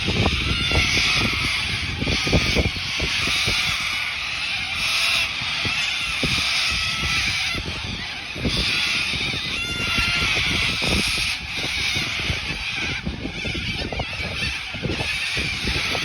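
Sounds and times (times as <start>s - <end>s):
wind thumps on microphone: 0.0s - 3.8s, 6.2s - 16.0s
cockatoos screeching: 0.0s - 16.0s.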